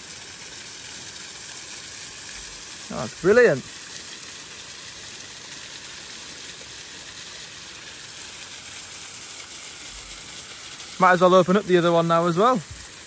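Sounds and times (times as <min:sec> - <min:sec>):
waterfall rushing hiss: 0:00.0 - 0:13.0.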